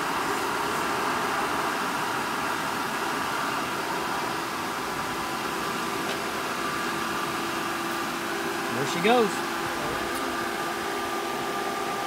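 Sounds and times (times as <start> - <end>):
pool pump motor hum: 0.0 - 12.0.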